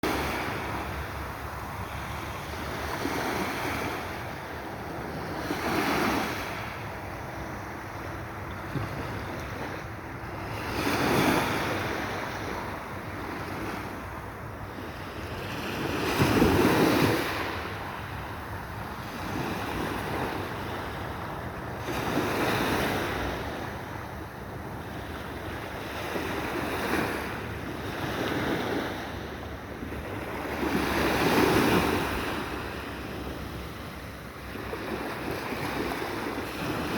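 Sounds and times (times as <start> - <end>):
sea waves washing in: 0.0 - 36.9
wind rumbling on microphone: 0.0 - 36.9.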